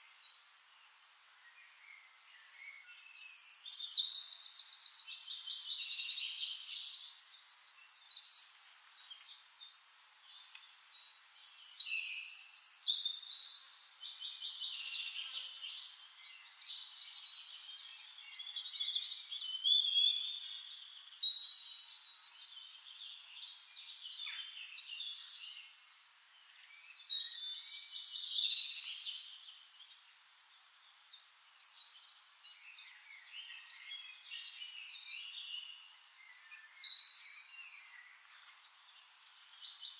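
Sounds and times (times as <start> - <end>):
songbirds trilling and twittering: 0.0 - 39.9.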